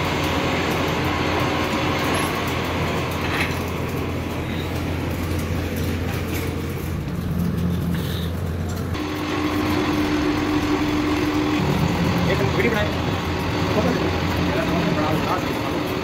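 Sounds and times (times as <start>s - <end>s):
machine humming and rumbling: 0.0s - 16.0s.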